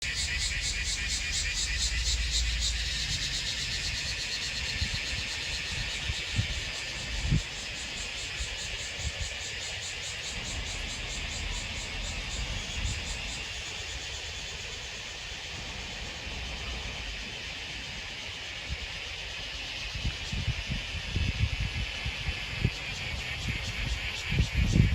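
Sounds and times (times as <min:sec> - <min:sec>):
cicadas shrilling: 0:00.0 - 0:24.9.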